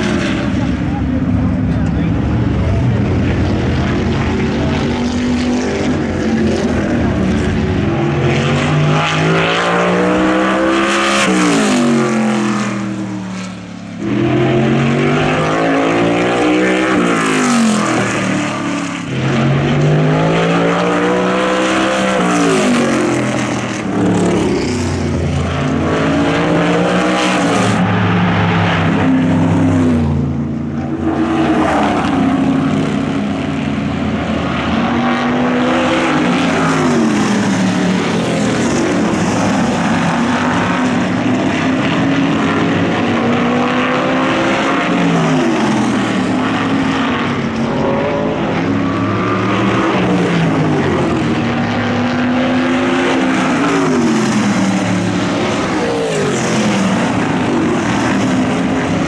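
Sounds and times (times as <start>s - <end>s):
race car engines passing: 0.0s - 59.0s.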